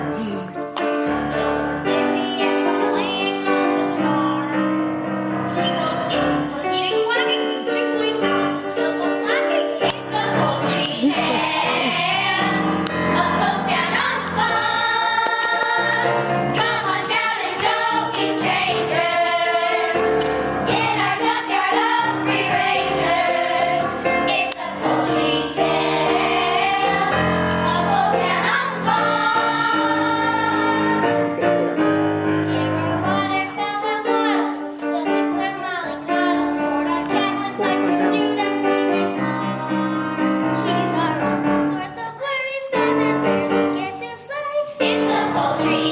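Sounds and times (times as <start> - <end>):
instrumental accompaniment: 0.0 - 42.0
voices singing together: 8.1 - 45.9.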